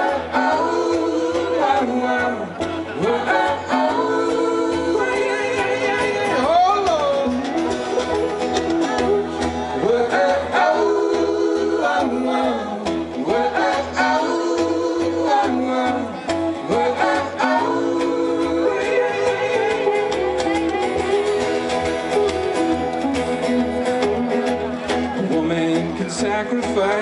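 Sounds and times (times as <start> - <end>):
acoustic string band playing: 0.0 - 27.0.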